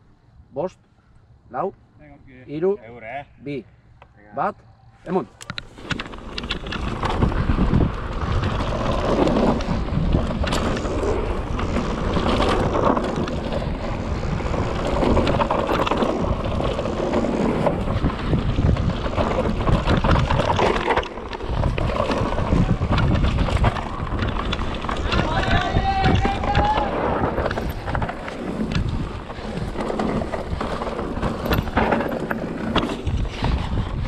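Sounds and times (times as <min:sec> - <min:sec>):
bike tyres on dirt: 0:04.9 - 0:34.0
wind rushing over microphone: 0:05.3 - 0:34.0
bike clicking and clattering: 0:05.4 - 0:34.0.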